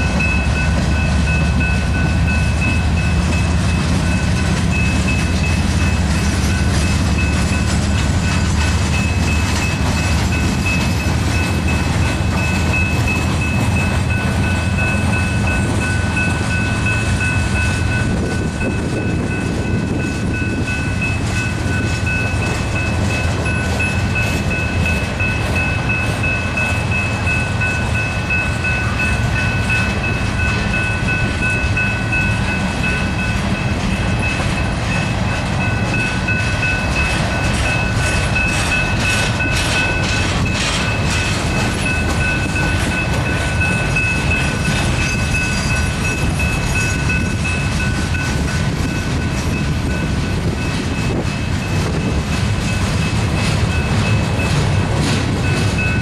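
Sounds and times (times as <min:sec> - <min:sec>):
train wheels rumbling on rails: 0:00.0 - 0:56.0
wheels clacking over rail joints: 0:00.0 - 0:56.0.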